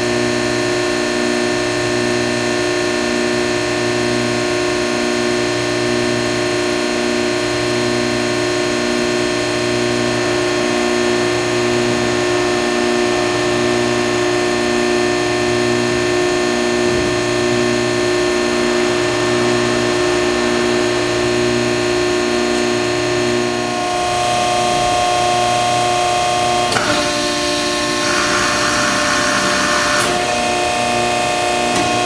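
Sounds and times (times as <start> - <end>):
hydraulic pump motor humming: 5.2 - 32.0.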